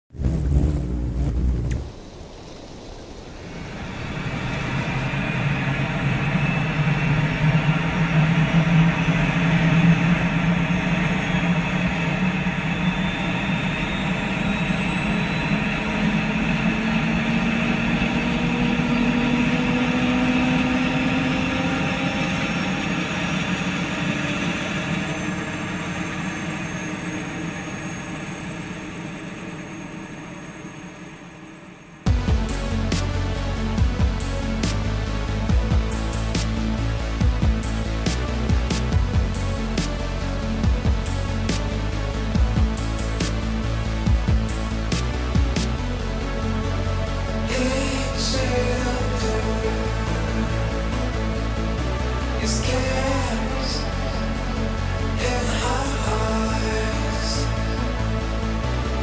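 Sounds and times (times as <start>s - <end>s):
helicopter engine and rotor: 3.8s - 52.5s.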